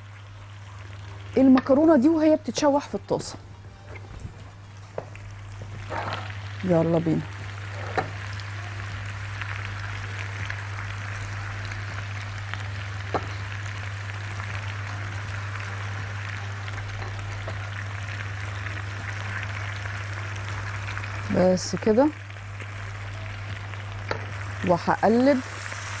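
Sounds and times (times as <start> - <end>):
low hum: 0.0 - 25.6
food sizzling in a pan: 0.0 - 26.0.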